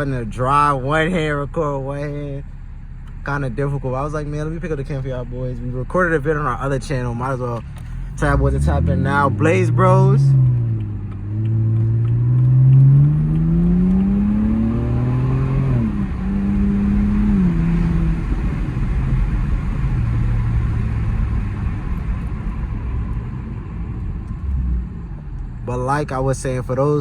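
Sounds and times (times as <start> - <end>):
car exhaust accelerating: 0.0 - 27.0
road noise: 0.0 - 27.0.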